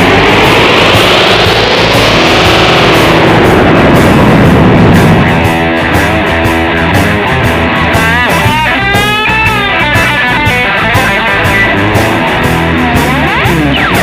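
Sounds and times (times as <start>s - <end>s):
electric guitar with delay repeats: 0.0s - 14.0s.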